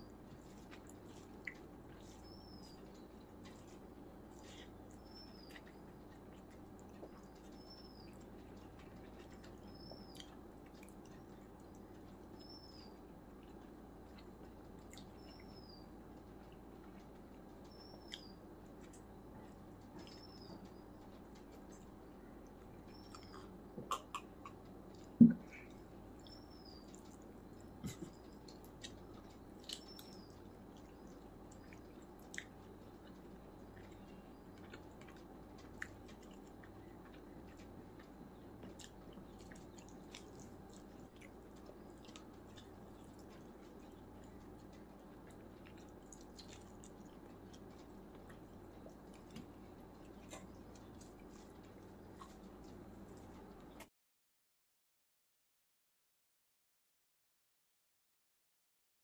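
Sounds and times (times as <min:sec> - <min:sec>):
chewing and mouth clicks: 0:00.0 - 0:53.9.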